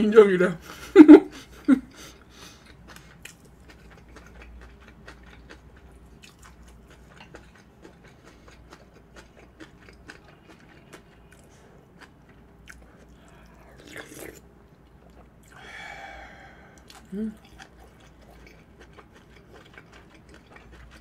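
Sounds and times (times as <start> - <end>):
close chewing: 2.0 - 15.6, 16.4 - 21.0.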